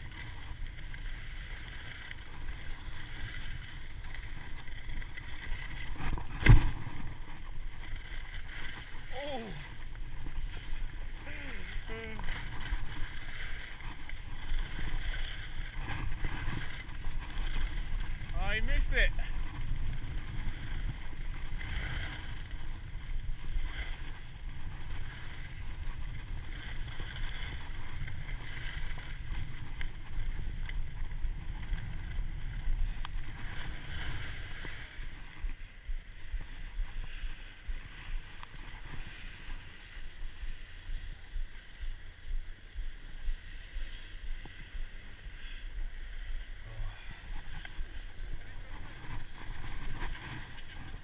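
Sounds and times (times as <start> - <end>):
skis scraping on packed snow: 0.0 - 51.0
wind rumbling over microphone: 0.0 - 51.0.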